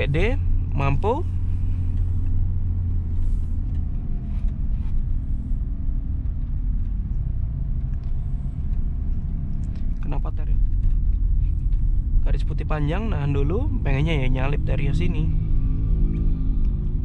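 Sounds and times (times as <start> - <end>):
car engine drone: 0.0 - 17.0.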